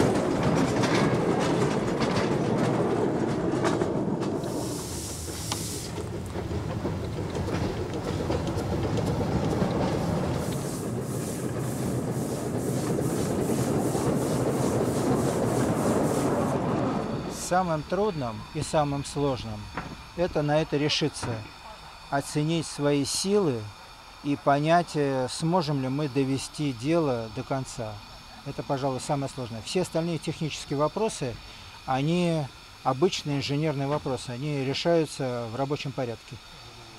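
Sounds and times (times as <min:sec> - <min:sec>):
quick regular locomotive beat: 0:00.0 - 0:35.9
steam locomotive wheels rattling: 0:00.0 - 0:36.6
steam hiss: 0:03.4 - 0:36.9.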